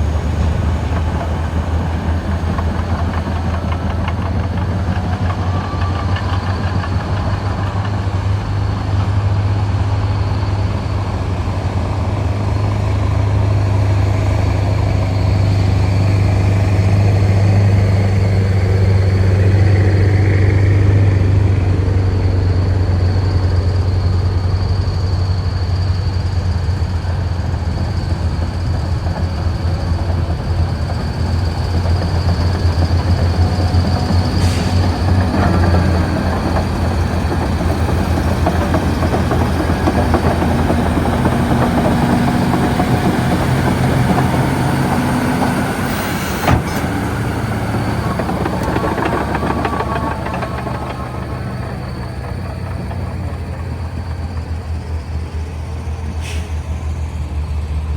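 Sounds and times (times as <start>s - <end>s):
bulldozer diesel engine under load: 0.0s - 57.9s
bulldozer tracks running: 0.0s - 57.9s.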